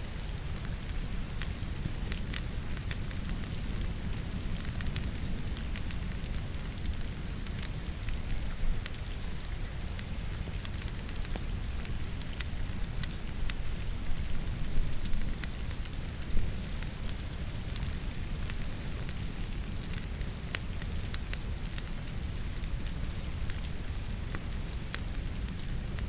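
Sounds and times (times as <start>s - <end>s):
fire crackling and popping: 0.0s - 26.0s
low rumble of fire: 0.0s - 26.0s
rain hissing: 0.0s - 26.0s.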